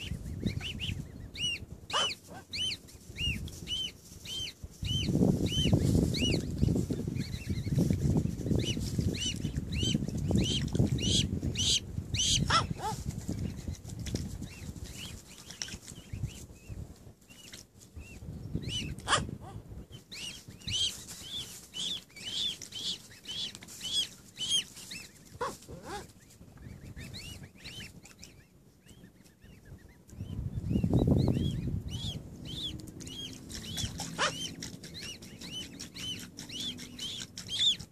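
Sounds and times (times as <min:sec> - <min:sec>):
cygnets peeping: 0:00.0 - 0:37.9.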